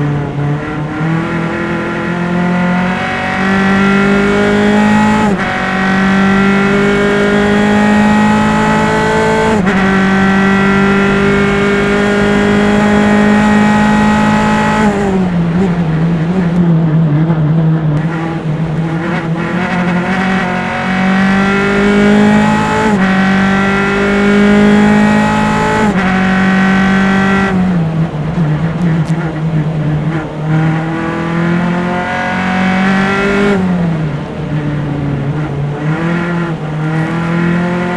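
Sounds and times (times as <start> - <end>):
race car engine at high revs: 0.0 - 37.9.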